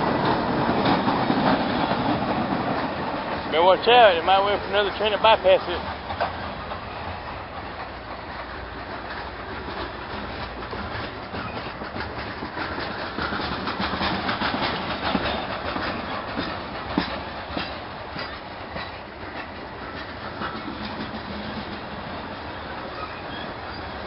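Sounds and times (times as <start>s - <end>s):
freight train cars rolling: 0.0s - 24.0s
wheels clacking over rail joints: 0.0s - 24.0s.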